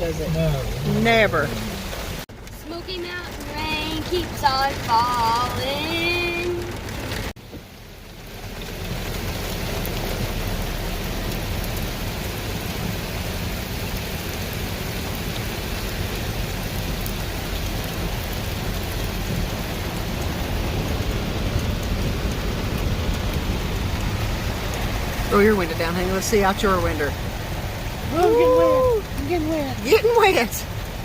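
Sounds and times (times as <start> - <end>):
heavy rain on a car: 0.0 - 31.0.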